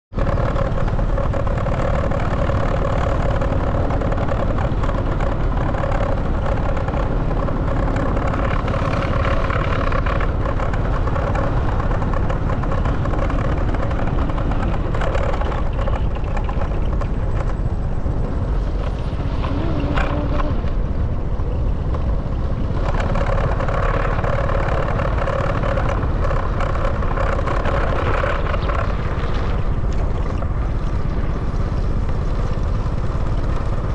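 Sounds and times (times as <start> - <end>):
motorbike engine running: 0.1 - 33.9
wind rumble on microphone: 0.1 - 33.9.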